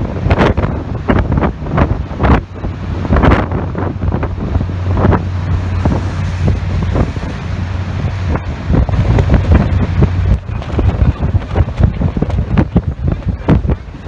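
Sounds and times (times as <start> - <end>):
boat engine hum: 0.0 - 14.0
wind buffeting microphone: 0.0 - 14.0.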